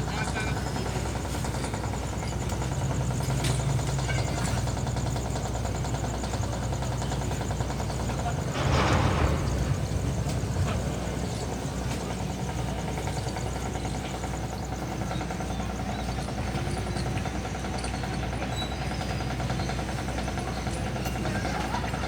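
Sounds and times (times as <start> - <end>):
low engine-like hum: 0.0 - 22.0.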